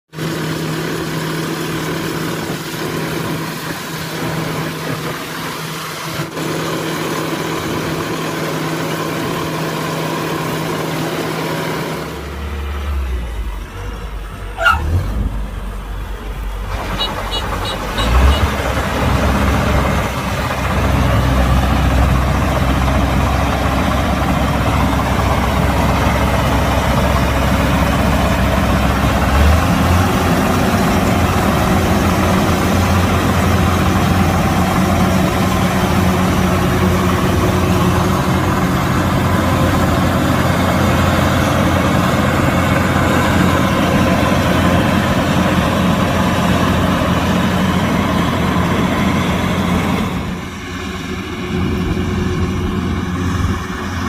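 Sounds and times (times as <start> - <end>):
diesel engine rumbling: 0.1 - 54.0.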